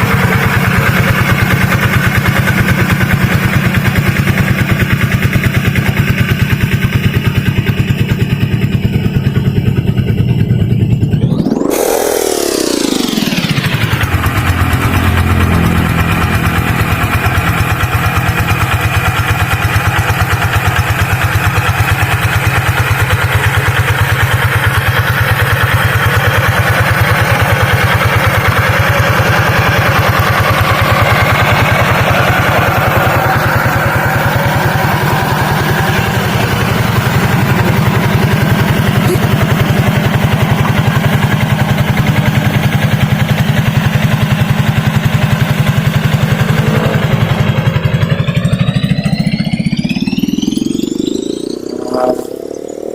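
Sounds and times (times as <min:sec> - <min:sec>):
tractor engine running steadily: 0:00.0 - 0:52.8.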